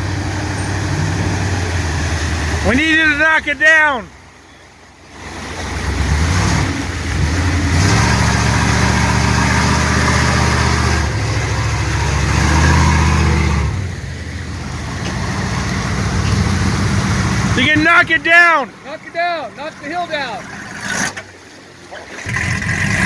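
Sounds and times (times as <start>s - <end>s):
pickup engine revving: 0.0s - 3.9s, 5.1s - 21.4s, 22.1s - 23.0s.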